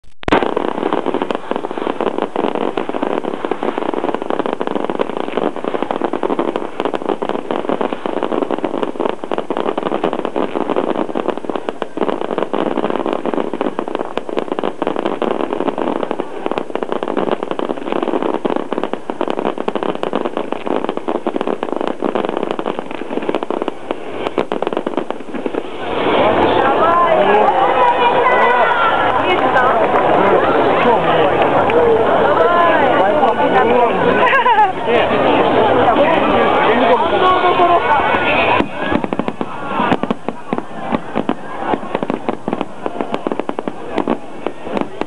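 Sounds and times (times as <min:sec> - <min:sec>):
fireworks crackling: 0:00.0 - 0:45.0.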